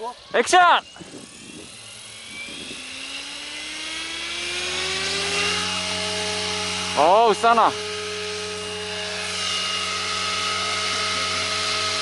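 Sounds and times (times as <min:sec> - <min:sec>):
rc helicopter motor and rotor whine: 0:00.0 - 0:12.0.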